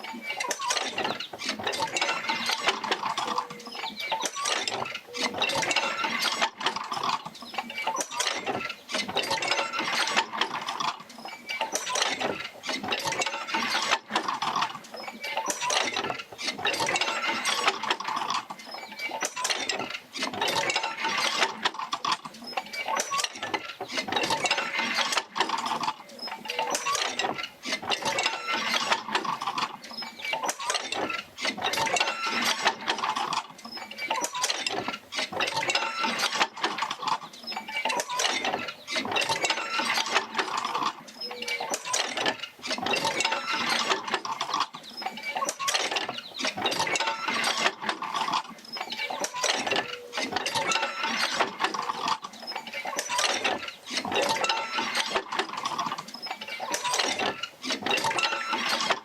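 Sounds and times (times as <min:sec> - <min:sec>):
wheel and jerker lines clanking: 0:00.0 - 0:59.0.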